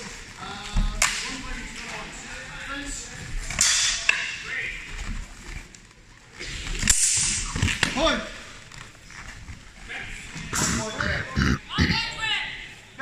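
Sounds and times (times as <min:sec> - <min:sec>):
large hall noise: 0:00.0 - 0:13.0.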